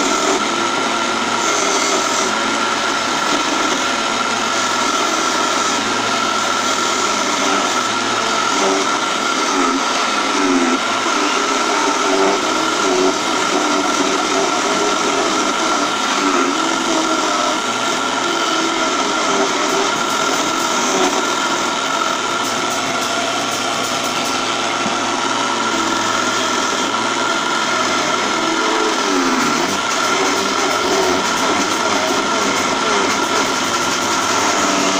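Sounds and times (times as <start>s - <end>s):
chisel cutting spinning wood: 0.0s - 34.9s
wood lathe whining: 0.0s - 34.9s.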